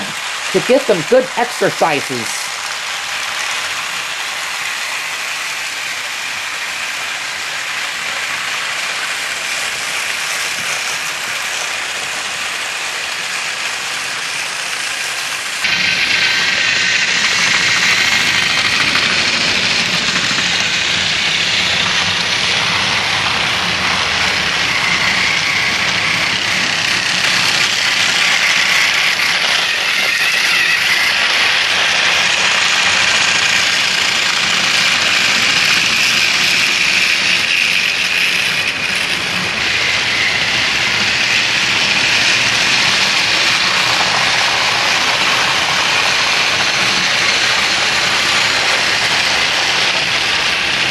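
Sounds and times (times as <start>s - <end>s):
toy train motors whirring: 0.0s - 50.9s.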